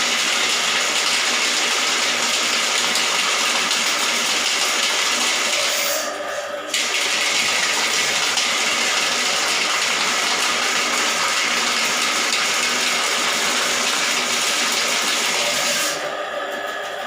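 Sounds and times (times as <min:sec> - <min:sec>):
toilet water rushing: 0:00.0 - 0:17.0.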